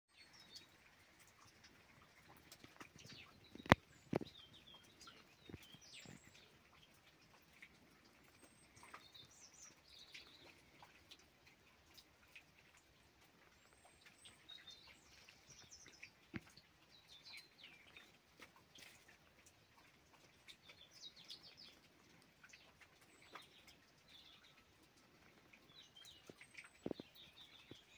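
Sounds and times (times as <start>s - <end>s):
small birds chirping: 0.1s - 27.9s.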